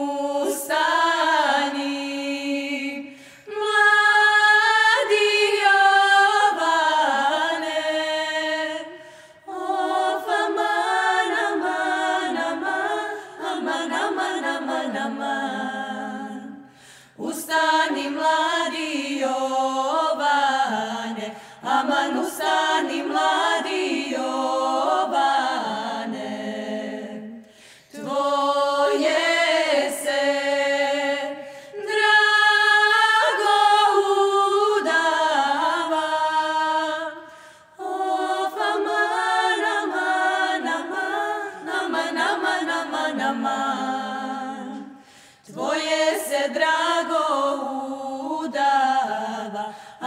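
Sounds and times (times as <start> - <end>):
women singing a cappella: 0.0 - 50.0.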